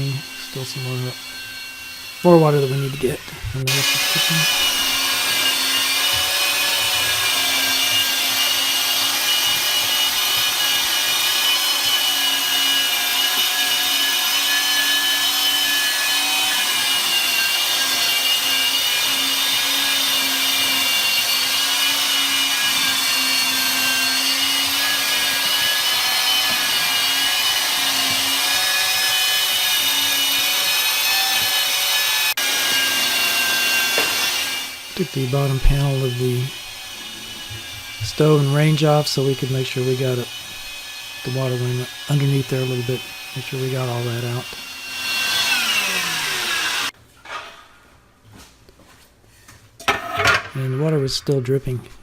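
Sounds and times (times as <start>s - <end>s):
wet dry vacuum motor whine: 0.0s - 47.0s.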